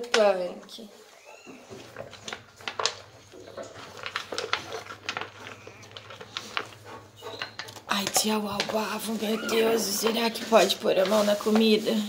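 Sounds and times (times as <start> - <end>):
dog crunching dry kibble: 0.0 - 11.8.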